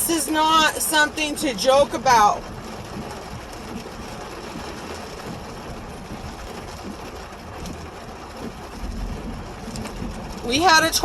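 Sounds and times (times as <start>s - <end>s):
rain: 0.0s - 11.0s
running floodwater: 0.0s - 11.0s.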